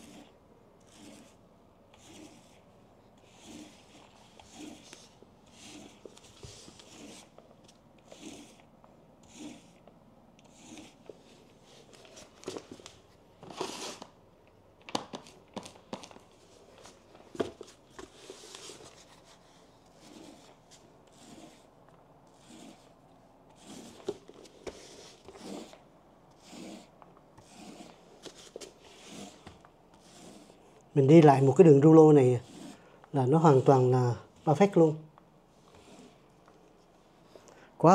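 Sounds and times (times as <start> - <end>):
paint roller strokes on wood: 0.0 - 12.9, 16.4 - 37.9.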